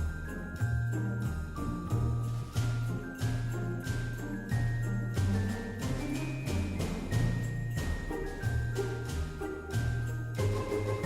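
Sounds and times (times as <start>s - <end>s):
christmas background music: 0.0s - 11.0s
jingle bells shaking: 0.0s - 11.0s.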